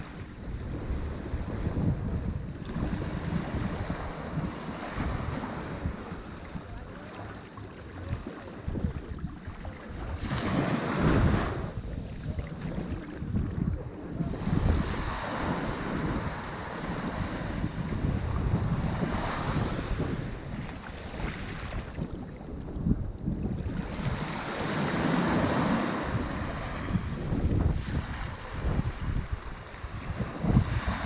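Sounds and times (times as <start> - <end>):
ocean waves breaking: 0.0 - 31.0
wind buffeting microphone: 0.0 - 31.0.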